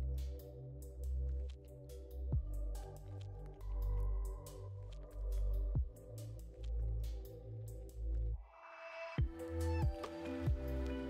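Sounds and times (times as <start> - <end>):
electronic music with heavy bass: 0.0 - 8.4, 9.2 - 11.0.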